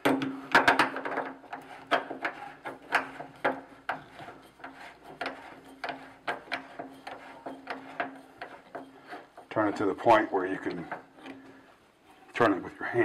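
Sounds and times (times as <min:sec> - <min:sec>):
wrench clicking and scraping: 0:00.0 - 0:11.5.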